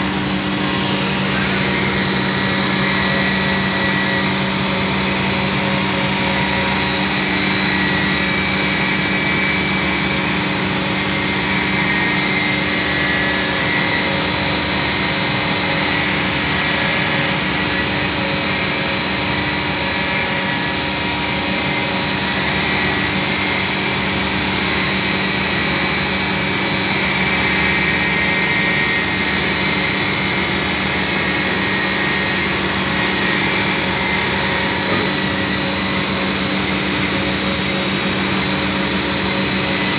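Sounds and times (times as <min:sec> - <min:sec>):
machinery hum and whine: 0:00.0 - 0:39.9.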